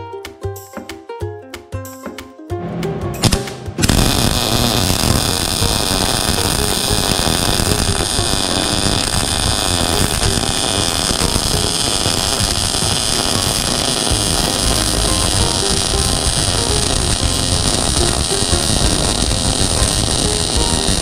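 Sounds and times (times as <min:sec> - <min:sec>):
welding arc crackling: 0:03.2 - 0:21.0.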